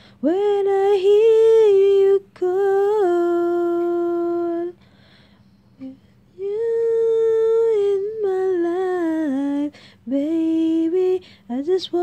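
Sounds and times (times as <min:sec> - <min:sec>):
woman singing long notes: 0:00.0 - 0:04.8, 0:05.8 - 0:12.0.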